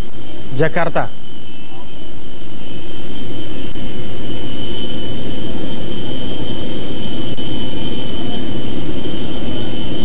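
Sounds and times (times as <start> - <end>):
jet turbine rumble and whine: 0.0 - 10.0.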